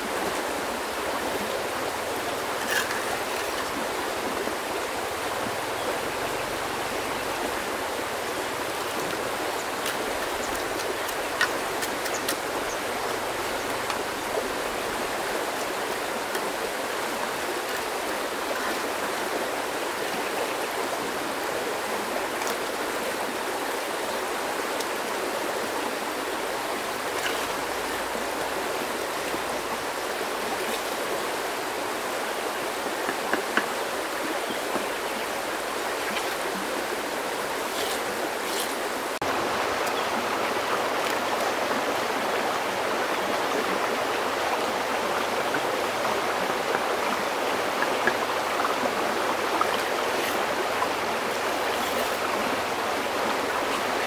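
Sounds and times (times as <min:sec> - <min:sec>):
creek water flowing: 0:00.0 - 0:54.0.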